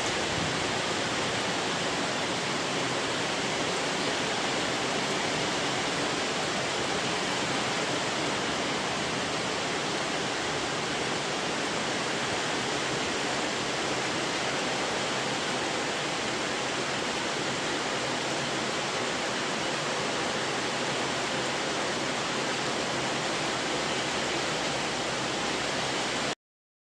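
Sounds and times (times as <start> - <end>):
heavy rain pouring: 0.0 - 26.4.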